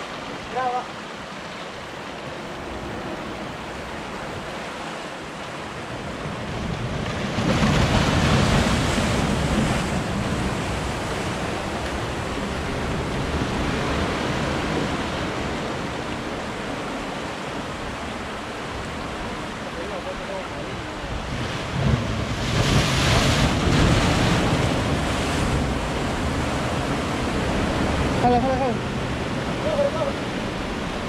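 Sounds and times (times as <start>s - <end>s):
sea surf breaking: 0.0s - 31.0s.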